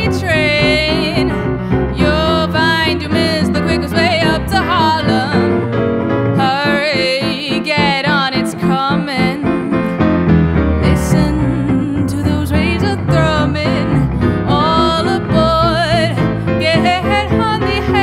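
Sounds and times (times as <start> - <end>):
woman singing jazz: 0.0 - 10.2, 10.8 - 18.0
guitar: 0.0 - 18.0
piano chords: 0.0 - 18.0.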